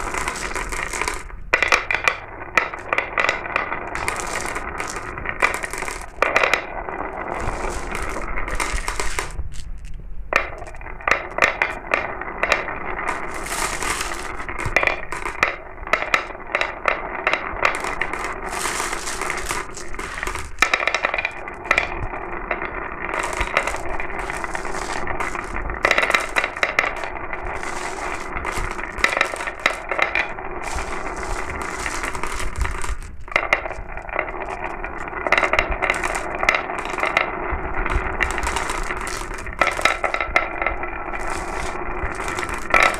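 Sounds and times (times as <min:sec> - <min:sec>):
marbles rattling down a track: 0:00.0 - 0:42.9.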